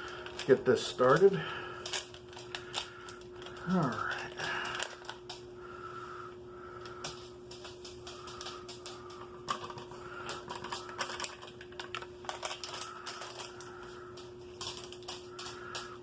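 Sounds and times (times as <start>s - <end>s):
plastic packaging crinkling: 0.0s - 5.5s, 7.7s - 16.0s
sharp clicks and crackles: 0.0s - 5.5s, 6.8s - 16.0s.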